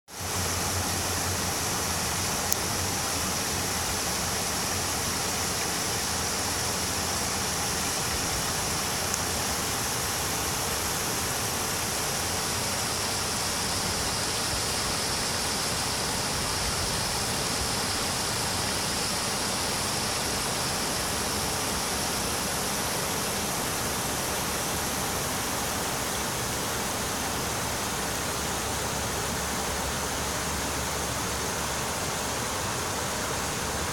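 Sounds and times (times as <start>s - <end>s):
creek flowing over rocks: 0.1s - 33.9s.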